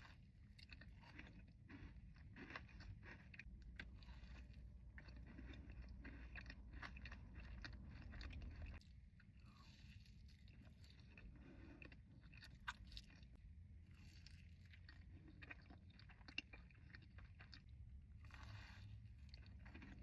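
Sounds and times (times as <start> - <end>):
person biting and chewing cookie: 0.0 - 20.0.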